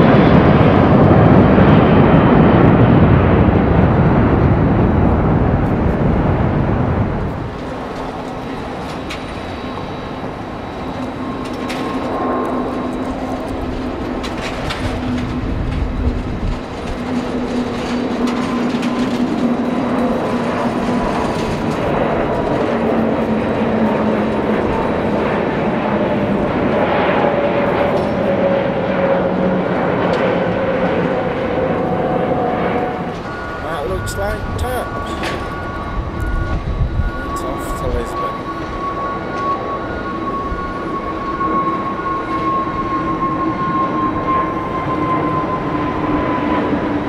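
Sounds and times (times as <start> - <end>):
jet engines roaring: 0.0 - 47.0.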